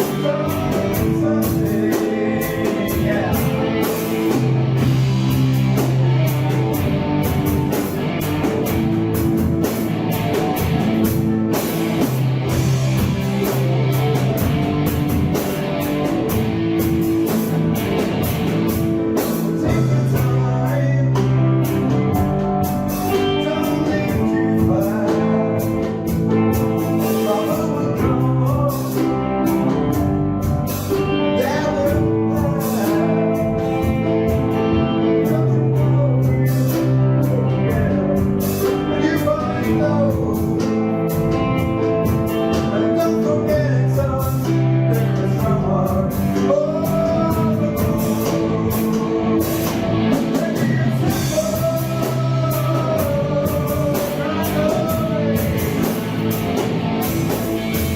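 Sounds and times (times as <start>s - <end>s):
person singing: 0.0s - 9.8s, 18.2s - 57.9s
bass line: 0.0s - 57.9s
rock band playing: 0.0s - 57.9s.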